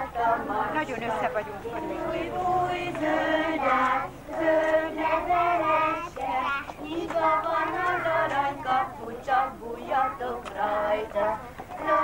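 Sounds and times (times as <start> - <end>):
children and women singing: 0.0 - 12.0.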